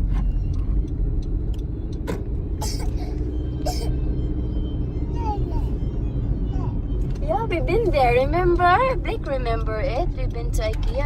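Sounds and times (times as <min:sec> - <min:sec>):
car road rumble inside cabin: 0:00.0 - 0:11.0.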